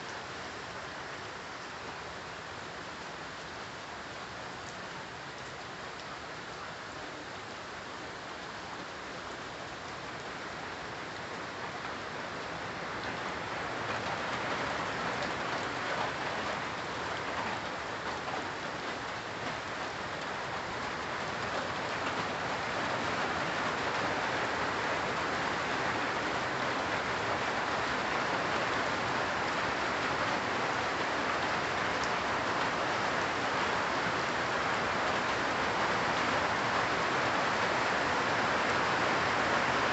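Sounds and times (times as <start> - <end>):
rain on leafy trees: 0.0 - 39.9.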